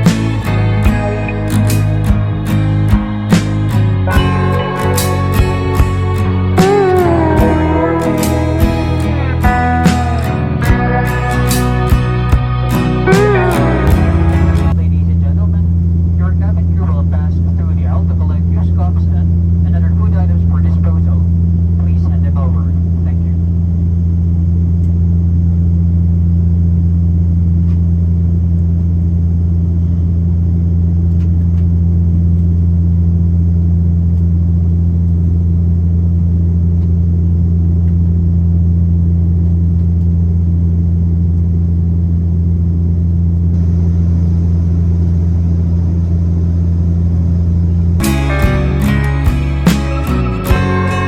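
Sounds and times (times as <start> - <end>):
airliner cabin engine drone: 0.0 - 51.0.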